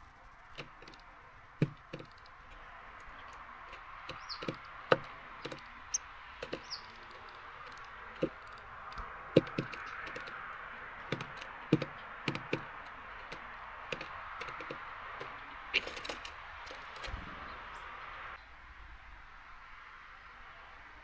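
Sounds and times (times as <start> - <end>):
bird chirping: 0.4 - 18.4
taps on a bird feeder: 0.6 - 17.9.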